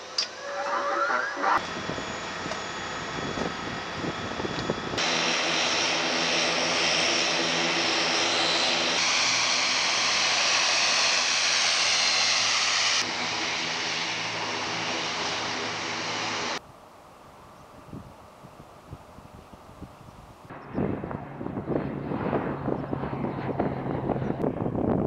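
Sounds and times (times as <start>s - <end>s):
turboprop engines humming: 0.0s - 25.0s.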